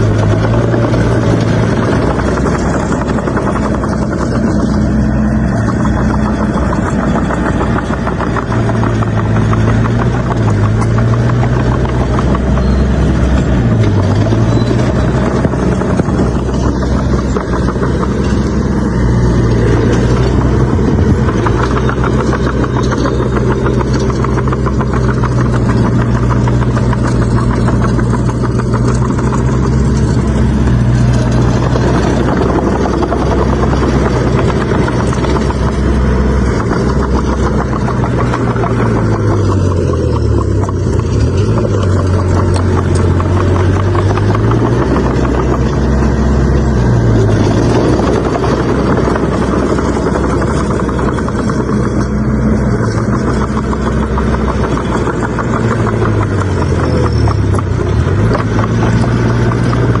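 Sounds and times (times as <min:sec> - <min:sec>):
bulldozer diesel engine lugging: 0:00.0 - 1:00.0.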